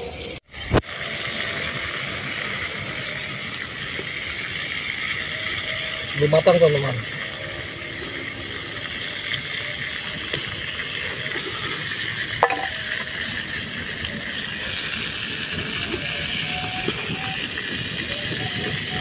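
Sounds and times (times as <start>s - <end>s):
batter sizzling in oil: 0.0s - 19.0s.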